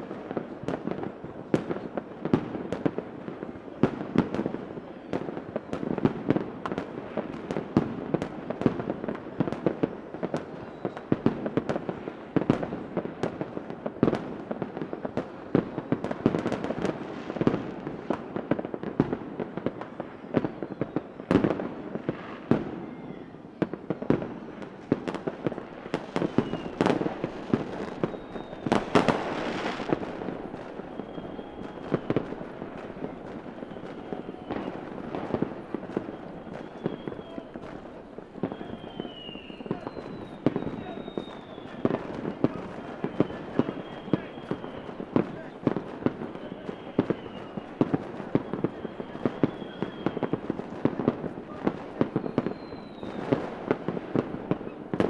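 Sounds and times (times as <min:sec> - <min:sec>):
faint fireworks whistles: 0:00.0 - 0:55.0
fireworks bangs: 0:00.0 - 0:55.0
fireworks crackling: 0:00.0 - 0:55.0.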